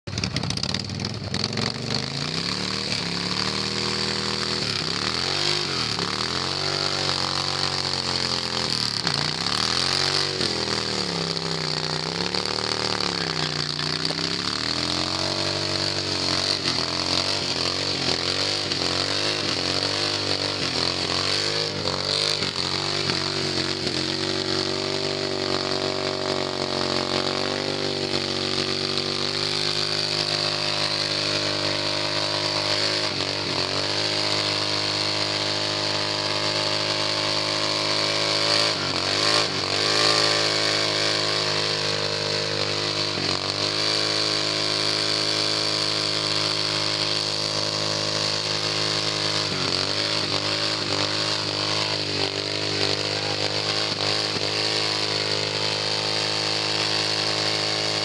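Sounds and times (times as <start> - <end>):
motorcycle engine revving: 0.0 - 58.0
spinning tire hissing: 0.1 - 58.0.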